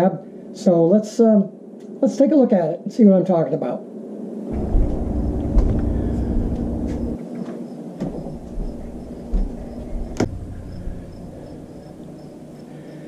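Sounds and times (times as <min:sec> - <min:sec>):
insects chirping: 0:00.2 - 0:13.0.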